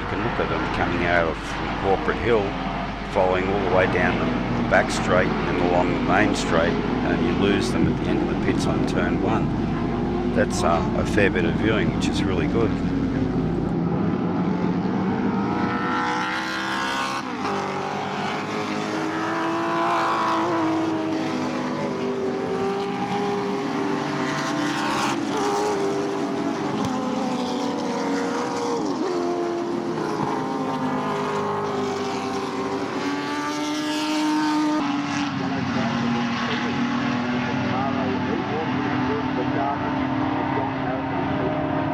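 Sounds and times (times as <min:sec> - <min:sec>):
race cars passing at high revs: 0:00.0 - 0:41.9.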